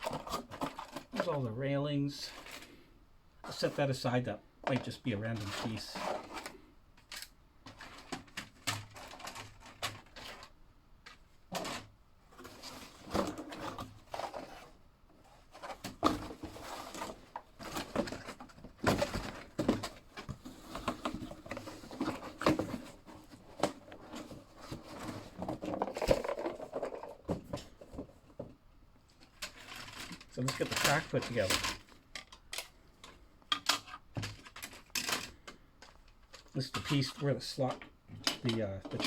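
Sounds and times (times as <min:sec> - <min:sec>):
plastic parts clicking and knocking: 0:00.0 - 0:01.3, 0:04.6 - 0:14.6, 0:15.6 - 0:39.0.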